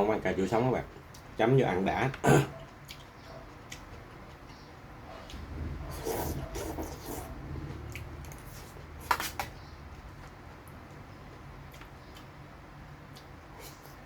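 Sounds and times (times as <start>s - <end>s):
person chewing and crunching food: 2.4s - 14.0s.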